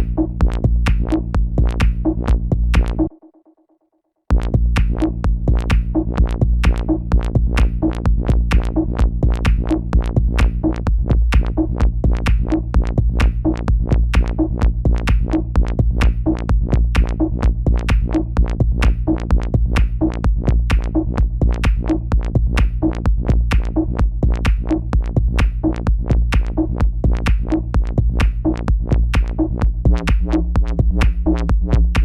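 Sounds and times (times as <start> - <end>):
low bass drone: 0.0 - 3.1, 4.3 - 32.0.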